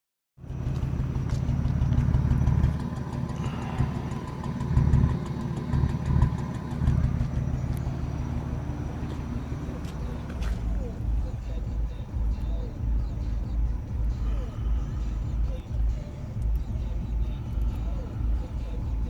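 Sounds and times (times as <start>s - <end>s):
car engine idling unevenly: 0.4s - 19.0s.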